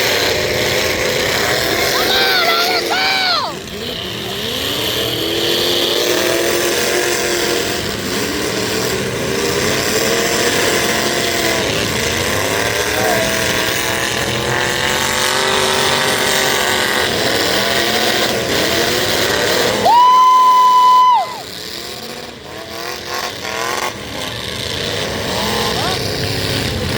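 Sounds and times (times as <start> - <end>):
truck engines revving hard: 0.0 - 26.9
trucks ramming each other: 0.0 - 26.9.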